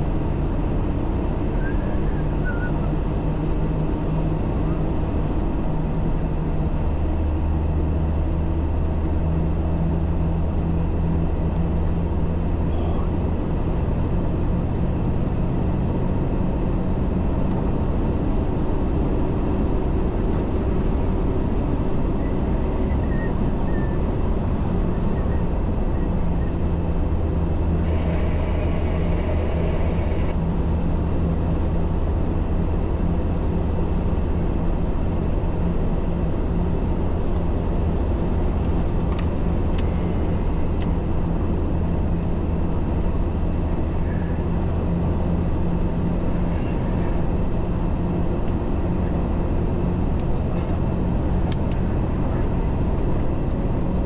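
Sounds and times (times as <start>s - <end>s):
road noise: 0.0s - 54.0s
truck diesel engine drone: 0.0s - 54.0s.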